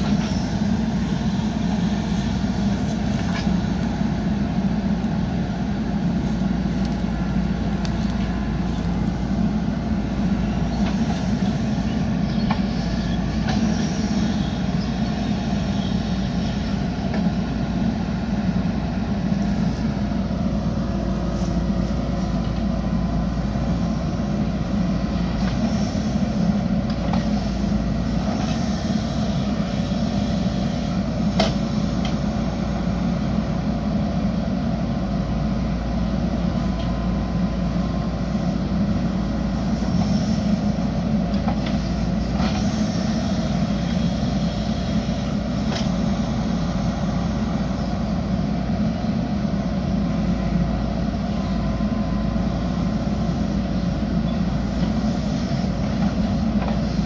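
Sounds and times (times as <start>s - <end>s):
backhoe digging soil: 0.0s - 33.6s, 34.9s - 57.0s
diesel engine running under load: 0.0s - 57.0s.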